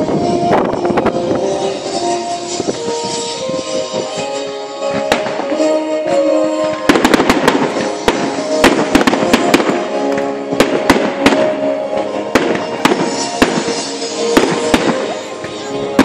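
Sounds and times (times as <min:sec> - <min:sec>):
fireworks bangs and crackles: 0:00.0 - 0:16.0
music: 0:00.0 - 0:16.0.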